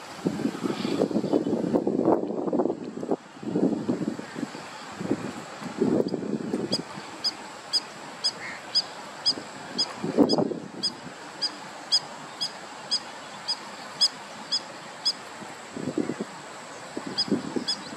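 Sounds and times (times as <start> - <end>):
wetland background: 0.0 - 17.9.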